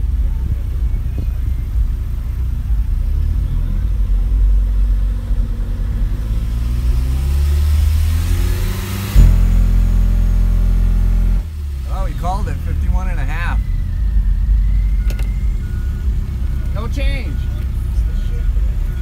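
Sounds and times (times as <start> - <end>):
car engine revving: 0.0 - 19.0
loud low bass tone: 0.0 - 19.0.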